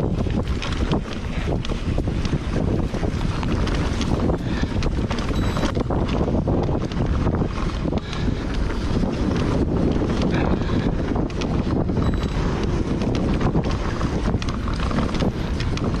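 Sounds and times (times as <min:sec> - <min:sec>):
bike chain and frame rattling: 0:00.0 - 0:16.0
tyres rolling over dirt: 0:00.0 - 0:16.0
wind buffeting microphone: 0:00.0 - 0:16.0.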